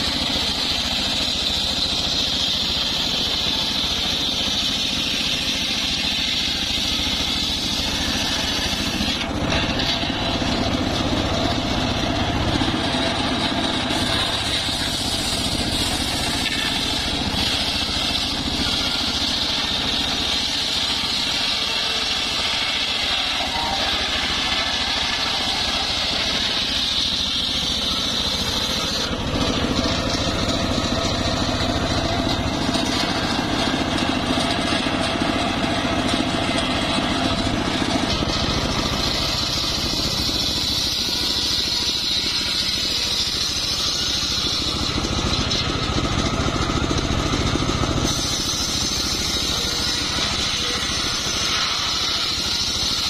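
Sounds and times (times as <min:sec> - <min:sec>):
circular saw cutting log: 0:00.0 - 0:53.0
saw machine drone: 0:00.0 - 0:53.0.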